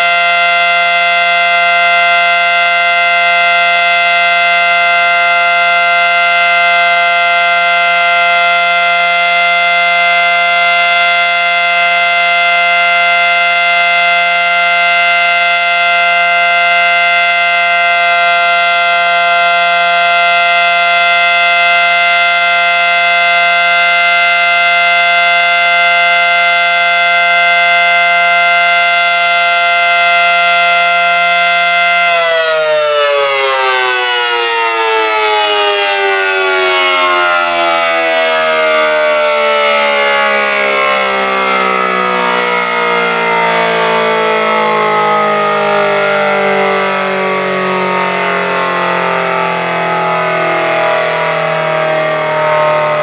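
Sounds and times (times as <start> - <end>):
warning siren sounding: 0.0 - 53.0.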